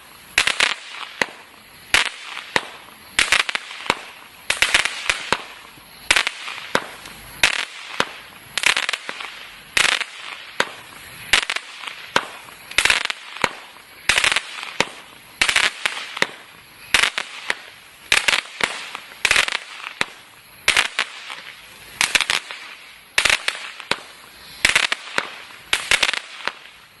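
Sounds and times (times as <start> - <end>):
crackling firework bursts: 0.0 - 27.0.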